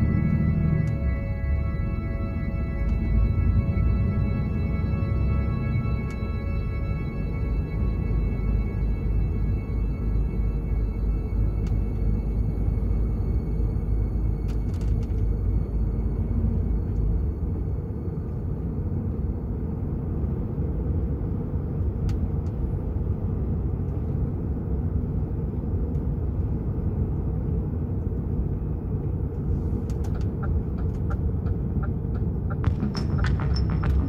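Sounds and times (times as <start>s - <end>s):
lorry engine and road rumble: 0.0s - 34.0s.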